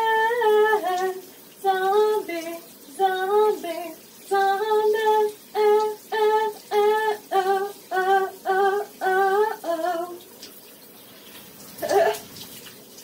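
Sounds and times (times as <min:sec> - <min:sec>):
water running in bath: 0:00.0 - 0:13.0.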